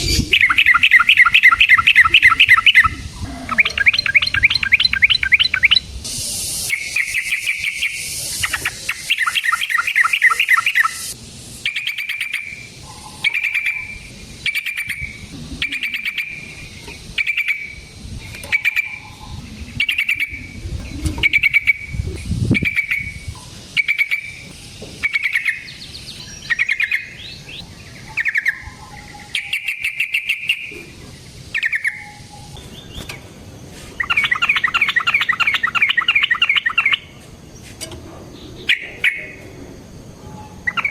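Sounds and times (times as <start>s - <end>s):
bulbul singing: 0.0s - 33.3s, 34.0s - 37.2s, 38.4s - 39.6s, 40.3s - 40.9s.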